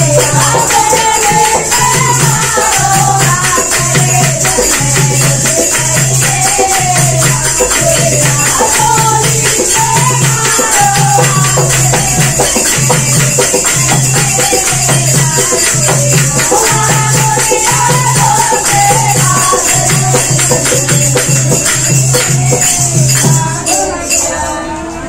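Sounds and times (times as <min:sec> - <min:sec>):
hand clapping: 0:00.0 - 0:22.8
jingling percussion: 0:00.0 - 0:25.0
women singing folk song: 0:00.0 - 0:25.0.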